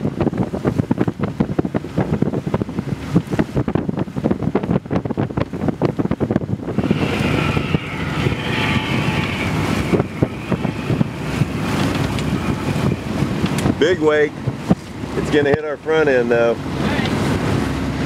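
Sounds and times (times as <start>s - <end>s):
steady rushing noise: 0.0s - 18.0s
wind buffeting microphone: 0.0s - 18.0s.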